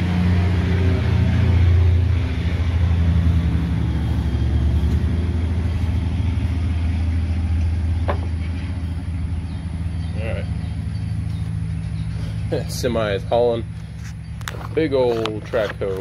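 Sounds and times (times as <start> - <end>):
sawmill engine idling: 0.0 - 16.0.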